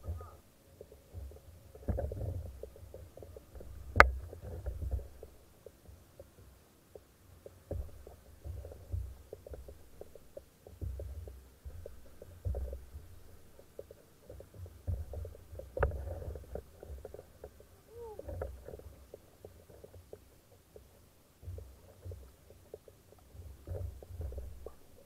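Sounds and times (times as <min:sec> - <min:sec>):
small knocks: 0:00.0 - 0:25.0.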